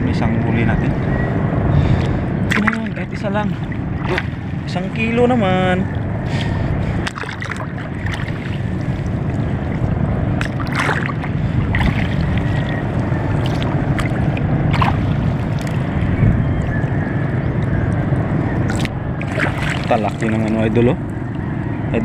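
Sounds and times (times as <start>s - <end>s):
water rushing against boat hull: 0.0s - 22.0s
wind buffeting microphone: 0.0s - 22.0s
water splashes: 1.8s - 16.9s, 17.5s - 22.0s.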